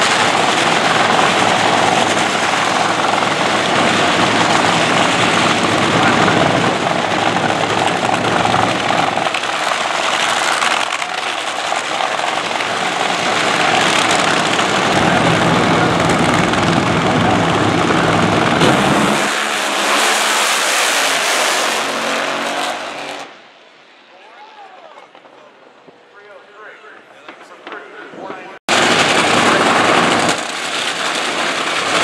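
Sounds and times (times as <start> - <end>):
drag racing engines roaring: 0.0 - 32.0.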